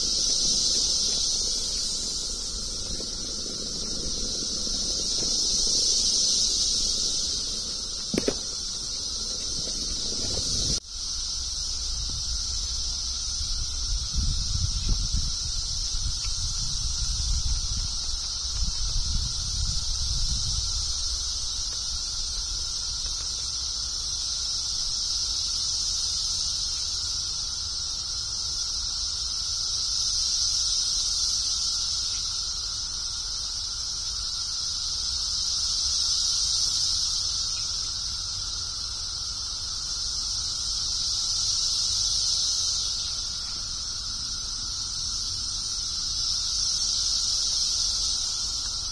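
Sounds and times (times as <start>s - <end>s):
cicadas buzzing: 0.0s - 48.9s.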